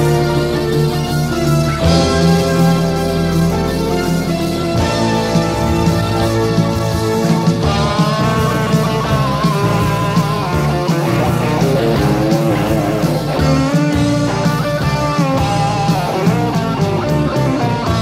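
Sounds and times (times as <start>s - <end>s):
rock song from cassette: 0.0s - 18.0s.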